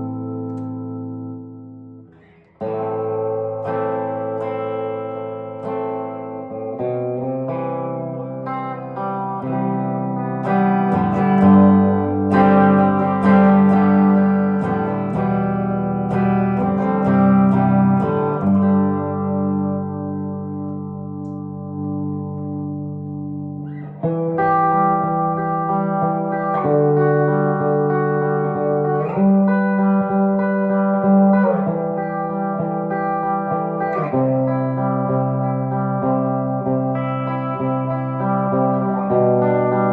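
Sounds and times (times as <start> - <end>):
electric guitar chords ringing: 0.0 - 39.9.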